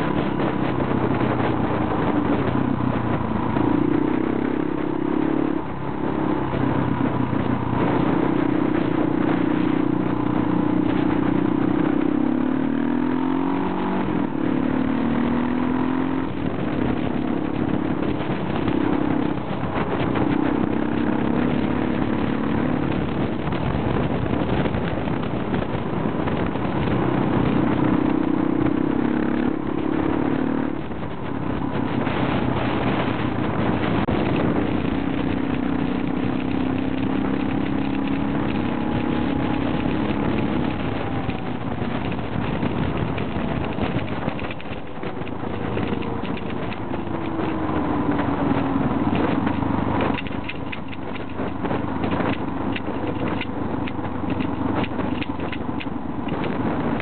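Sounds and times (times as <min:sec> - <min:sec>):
motorcycle engine revving: 0:00.0 - 0:57.0
wind on microphone: 0:00.0 - 0:57.0.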